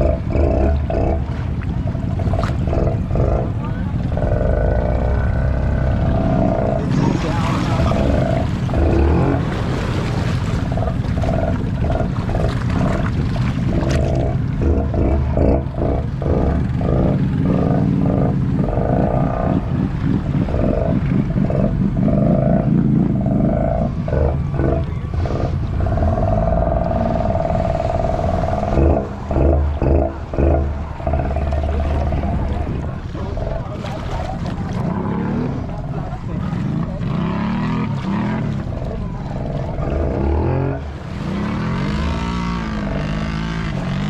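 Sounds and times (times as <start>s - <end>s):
atv engine revving: 0.0s - 44.0s.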